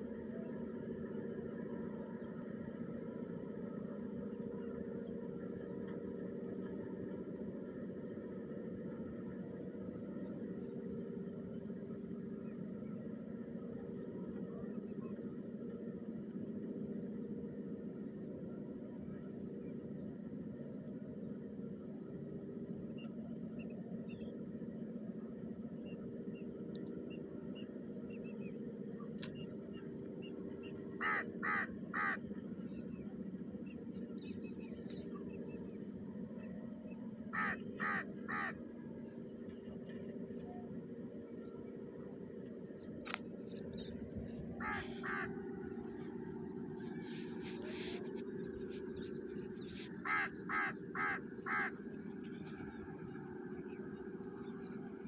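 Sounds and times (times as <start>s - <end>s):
steady low hum: 0.0s - 55.0s
steady mechanical drone: 0.0s - 55.0s.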